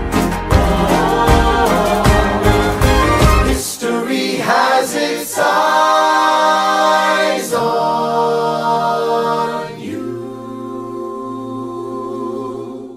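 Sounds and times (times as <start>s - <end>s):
choir singing held chords: 0.0s - 12.9s.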